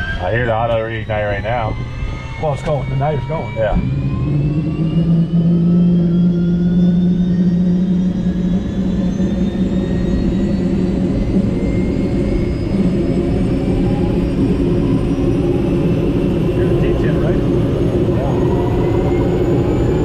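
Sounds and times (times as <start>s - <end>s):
helicopter turbine whine rising: 0.0s - 20.0s
low engine drone: 0.0s - 20.0s.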